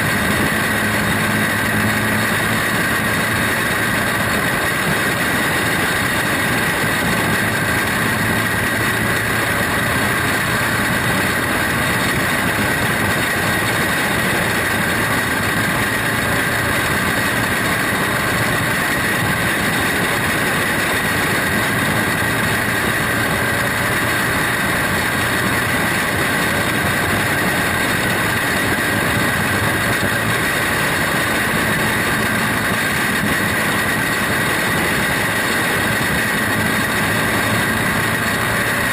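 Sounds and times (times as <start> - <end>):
kart engine running at high pitch: 0.0 - 38.9
track noise: 0.0 - 38.9.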